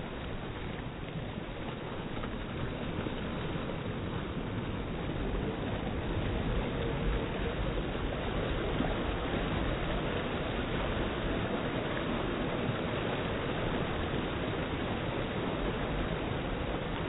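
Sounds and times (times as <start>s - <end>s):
surf rushing over rocks: 0.0s - 17.0s.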